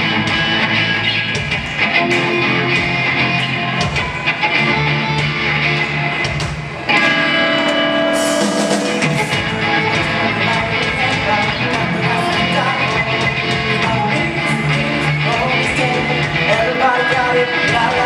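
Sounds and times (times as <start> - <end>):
rock band playing live: 0.0 - 18.0.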